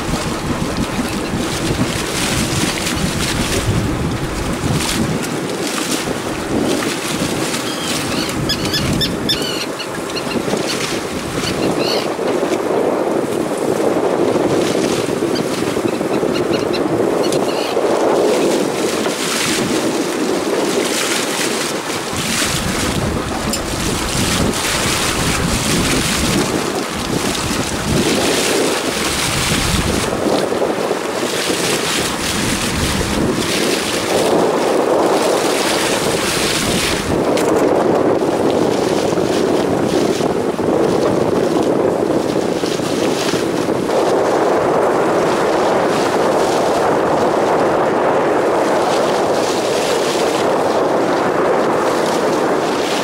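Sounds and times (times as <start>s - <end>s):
sea water washing against hull: 0.0s - 53.0s
wind buffeting microphone: 0.0s - 53.0s.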